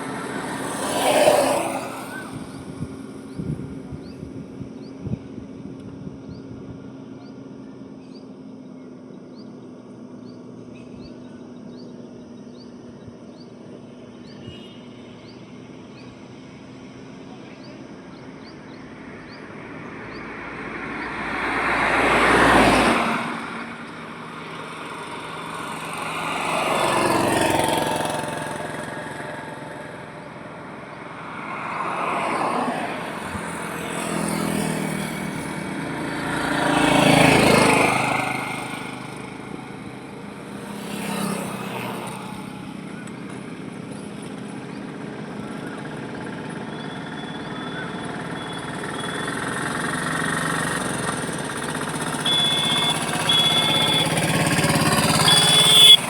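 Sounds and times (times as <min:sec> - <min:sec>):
vehicles passing on highway: 0:00.0 - 0:56.0.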